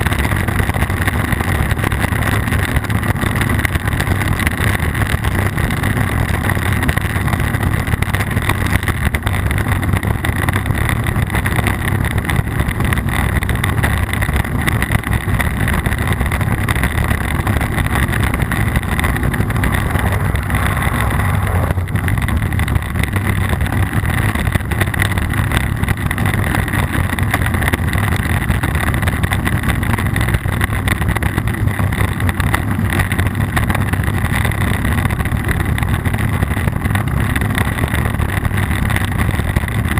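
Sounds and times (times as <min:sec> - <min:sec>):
wind buffeting camera: 0:00.0 - 0:39.9.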